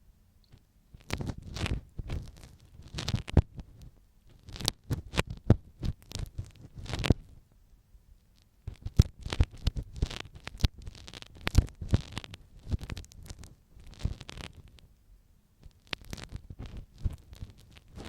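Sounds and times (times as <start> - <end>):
ear pick scratching microphone: 0.9 - 7.4, 8.4 - 14.9, 15.6 - 18.0.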